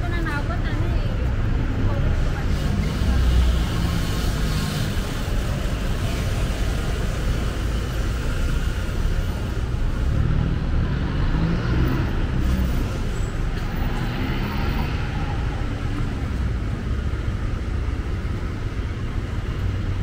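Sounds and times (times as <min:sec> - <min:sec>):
cars passing: 0:00.0 - 0:20.0
vehicle engines: 0:00.0 - 0:20.0.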